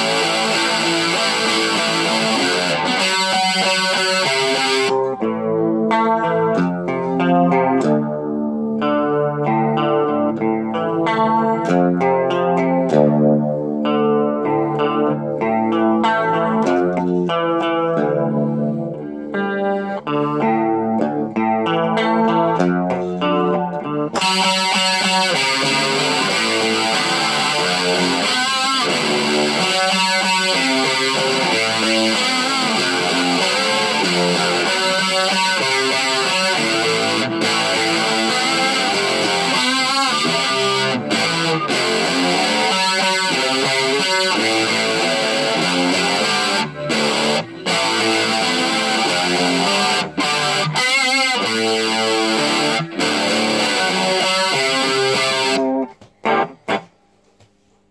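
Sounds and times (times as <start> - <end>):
electric guitar: 0.0 - 57.8.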